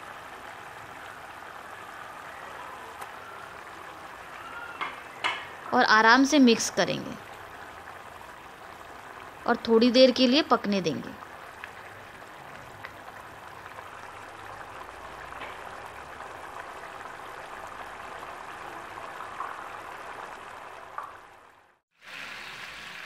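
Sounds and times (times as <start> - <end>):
curry simmering and bubbling: 0.0 - 23.0.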